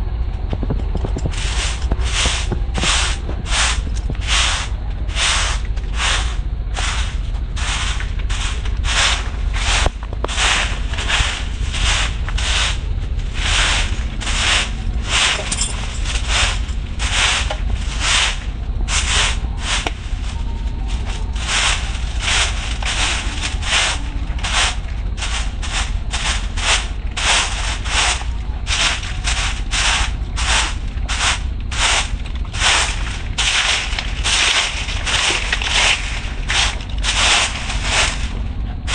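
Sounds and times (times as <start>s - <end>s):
broom sweeping paved path: 1.0s - 38.9s.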